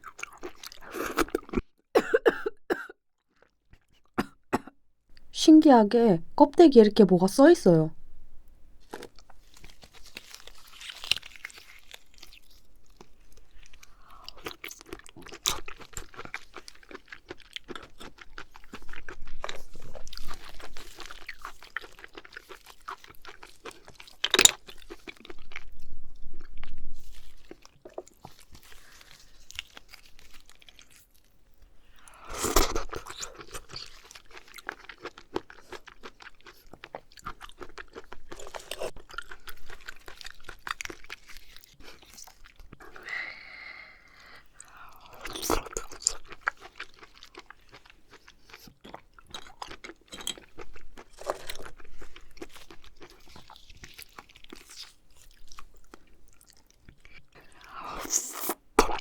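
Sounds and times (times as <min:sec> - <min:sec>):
wet chewing: 0:00.0 - 0:01.7, 0:08.8 - 0:31.3, 0:31.9 - 0:59.0.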